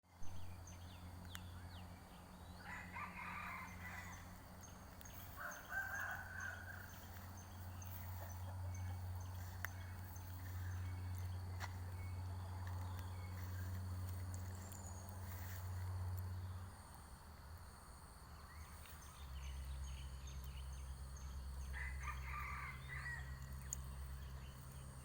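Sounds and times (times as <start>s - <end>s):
steady low hum: 0.1s - 21.7s.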